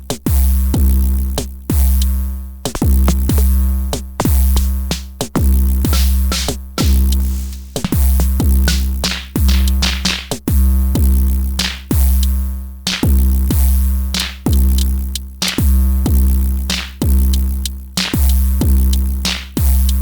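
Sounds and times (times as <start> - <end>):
deep kick drum: 0.0 - 12.4, 13.0 - 20.0.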